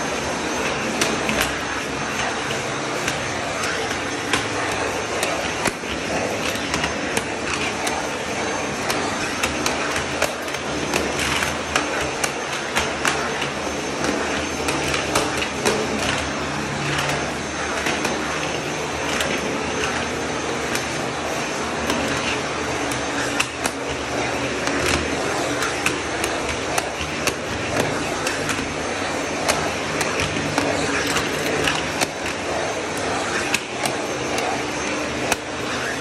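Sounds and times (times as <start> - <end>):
vacuum cleaner whining: 0.0 - 36.0.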